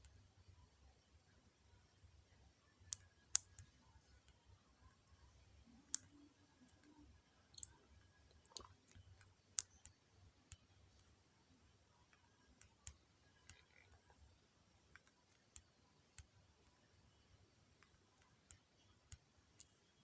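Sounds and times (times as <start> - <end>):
faint sharp clicks: 2.7 - 20.0.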